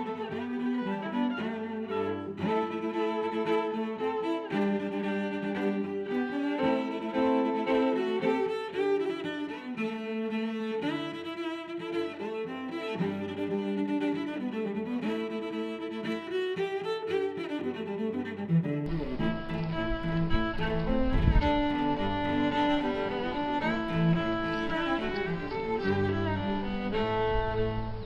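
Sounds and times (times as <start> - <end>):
bowed strings playing: 0.0 - 28.0.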